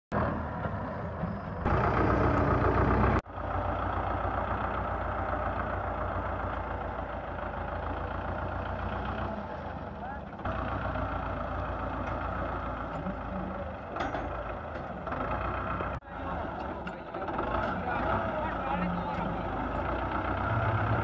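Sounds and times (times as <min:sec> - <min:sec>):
tractor diesel engine running: 0:00.1 - 0:21.0.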